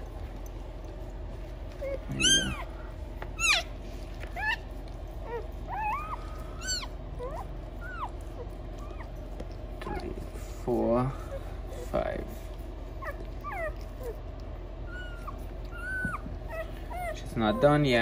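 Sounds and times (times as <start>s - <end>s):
puppies crying: 0.0s - 18.0s
steady low hum: 0.0s - 18.0s.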